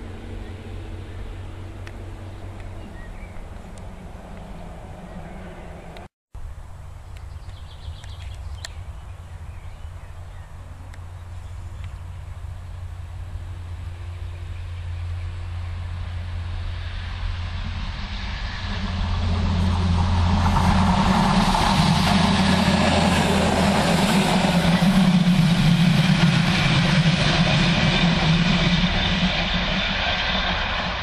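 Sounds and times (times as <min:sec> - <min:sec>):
diesel railcar passing: 0:00.0 - 0:07.0, 0:08.7 - 0:31.0.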